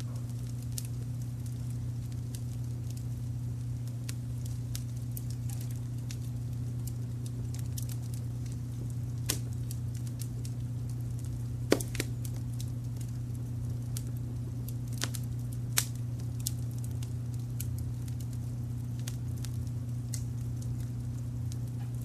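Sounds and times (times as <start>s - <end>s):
low rumble of brown noise: 0.0s - 22.0s
sharp pops from fire: 0.0s - 22.0s
wood fire crackling: 0.0s - 22.0s.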